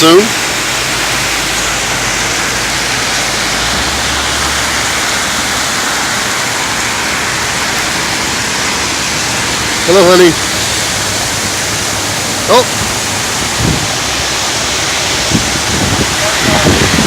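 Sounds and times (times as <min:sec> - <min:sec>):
heavy rain downpour: 0:00.0 - 0:17.0.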